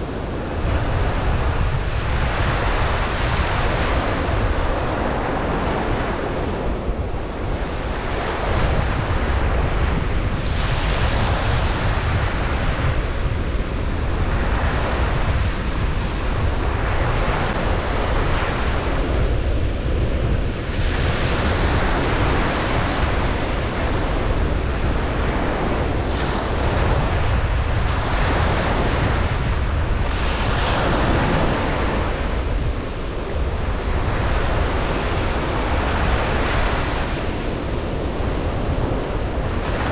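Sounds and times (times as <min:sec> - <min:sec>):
ocean waves breaking on beach: 0:00.0 - 0:39.9
wind noise on microphone: 0:00.0 - 0:39.9.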